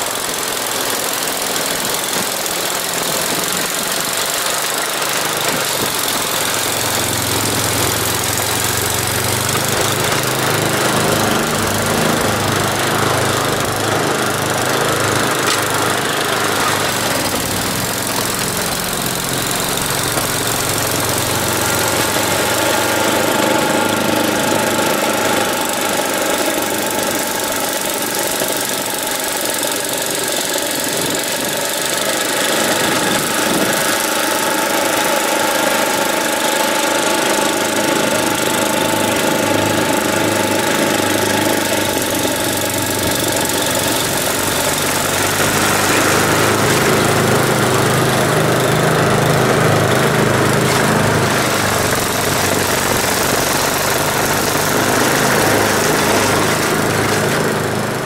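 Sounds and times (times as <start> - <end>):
snowblower engine running: 0.0 - 58.0.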